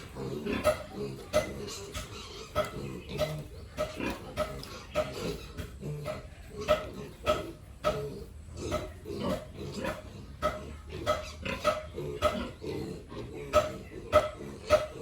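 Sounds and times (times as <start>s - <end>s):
pigs grunting and squealing: 0.0s - 15.0s.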